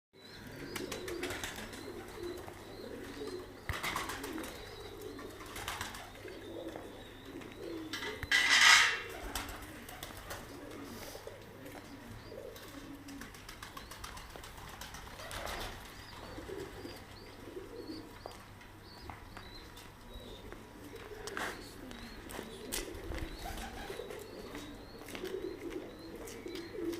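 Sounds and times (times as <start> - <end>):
pigeons cooing: 0.2 - 26.9.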